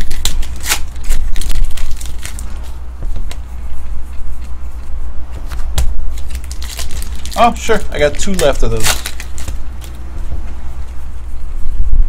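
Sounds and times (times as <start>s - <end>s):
cards rustling: 0.0s - 11.0s
steady low rumble: 0.0s - 12.0s.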